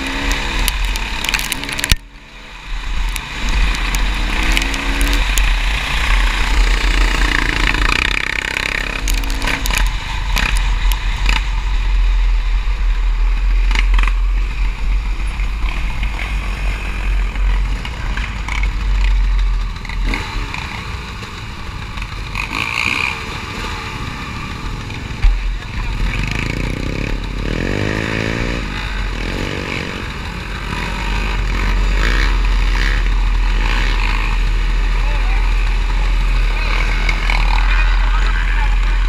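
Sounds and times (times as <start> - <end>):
quad bike engine running: 0.0 - 39.0.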